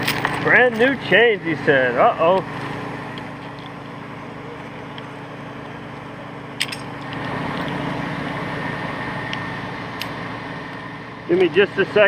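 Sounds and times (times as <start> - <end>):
crane engine running: 0.0 - 12.0.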